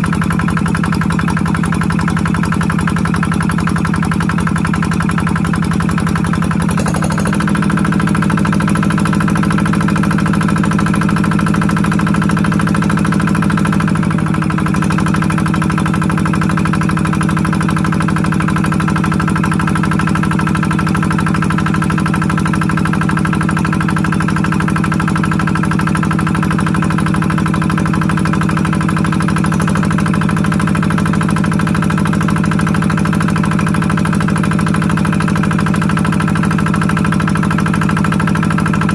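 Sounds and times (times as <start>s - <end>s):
engine-driven water pump running: 0.0s - 38.9s.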